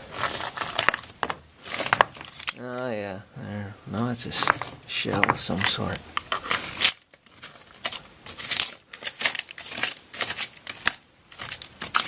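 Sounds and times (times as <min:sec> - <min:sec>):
digging in dirt and stones: 0:00.0 - 0:02.7, 0:04.0 - 0:12.0.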